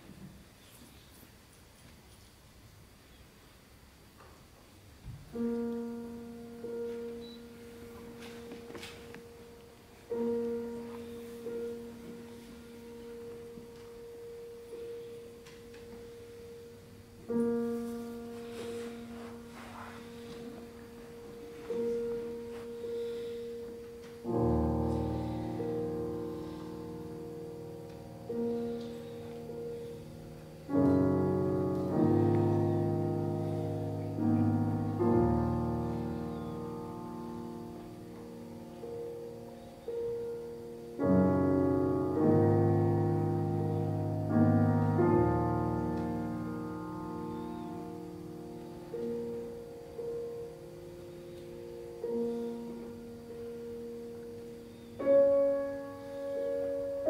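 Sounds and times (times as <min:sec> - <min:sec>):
grand piano classical music: 0:03.2 - 0:57.0.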